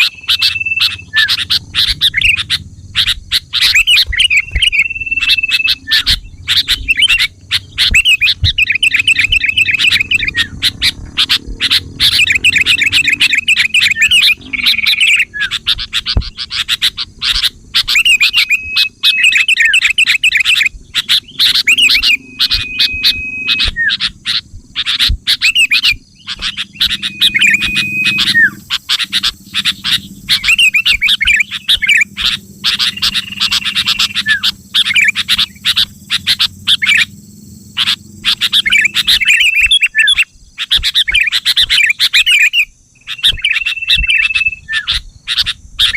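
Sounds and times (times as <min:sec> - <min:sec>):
bulbul chattering calls: 0:00.0 - 0:45.9
faint low hum: 0:00.0 - 0:45.9.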